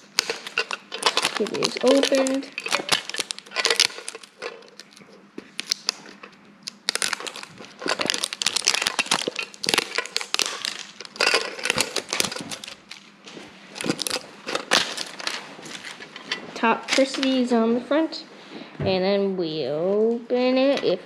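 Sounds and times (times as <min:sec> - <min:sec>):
plastic wrapping crinkling: 0:00.0 - 0:17.8.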